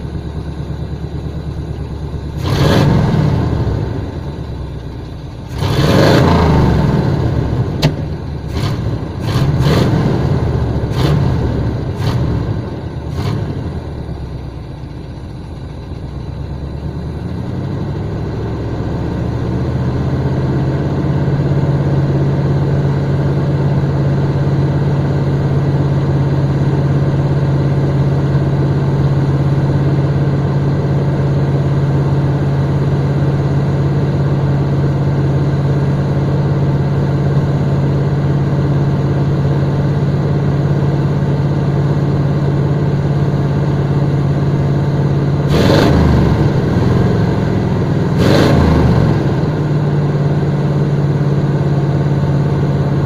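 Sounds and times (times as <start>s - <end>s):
engine revving at tailpipe: 2.3s - 4.6s, 5.4s - 14.2s, 17.2s - 53.0s.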